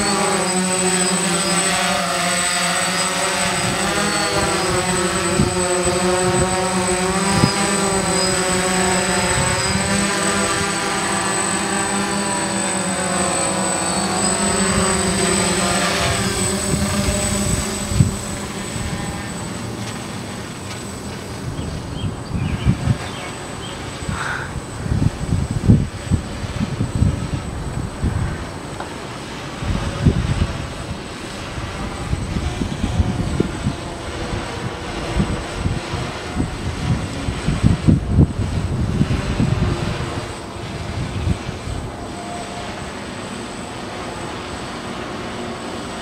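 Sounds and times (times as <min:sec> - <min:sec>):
drone propellers buzzing: 0:00.0 - 0:46.0.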